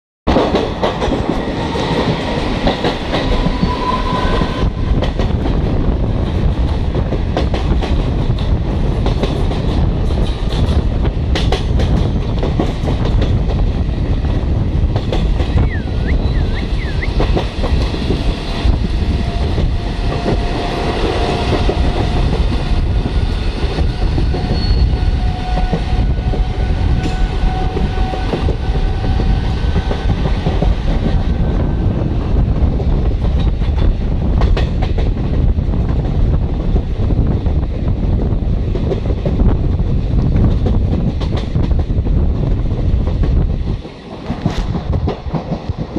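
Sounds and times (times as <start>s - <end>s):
train wheels rumbling on track: 0.3s - 45.9s.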